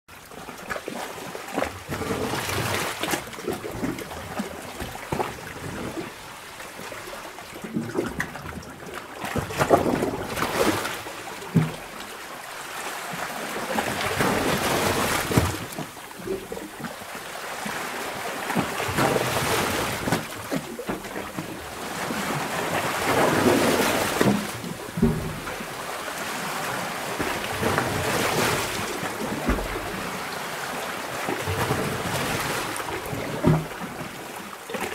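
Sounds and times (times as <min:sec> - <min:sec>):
sea water surging in cave: 0:00.1 - 0:34.9
water splashing and slapping: 0:00.1 - 0:34.9.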